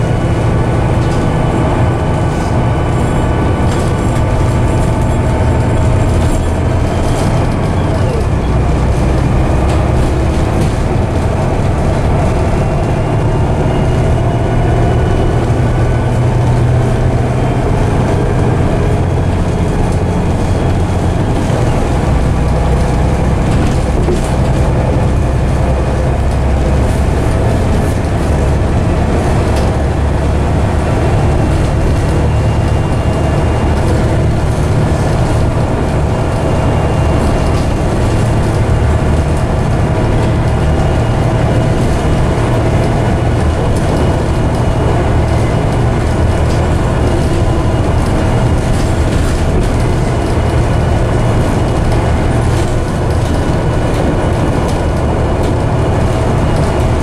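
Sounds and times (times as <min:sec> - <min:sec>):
bus diesel engine drone: 0:00.0 - 0:57.0
road and body rattle: 0:00.0 - 0:57.0.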